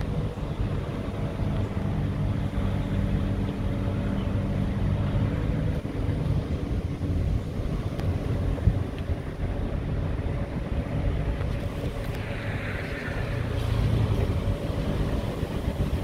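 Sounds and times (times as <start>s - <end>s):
car engine running: 0.0s - 16.0s
road and wind noise: 0.0s - 16.0s.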